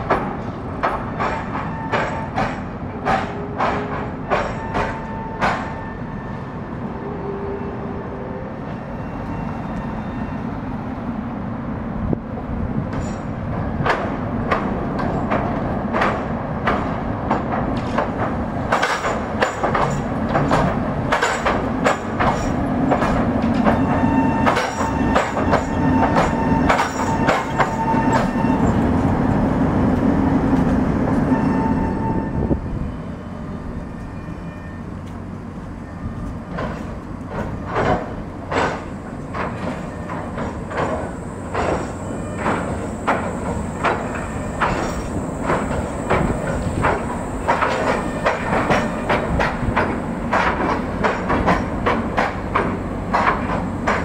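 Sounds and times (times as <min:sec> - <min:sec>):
tram drone: 0:00.0 - 0:54.0
tram wheels clattering: 0:00.0 - 0:54.0.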